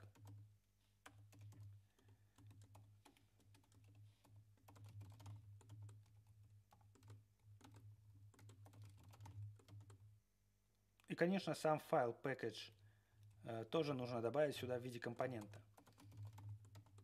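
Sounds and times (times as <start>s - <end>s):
faint typing on keyboard: 0.0s - 10.2s, 12.7s - 17.0s.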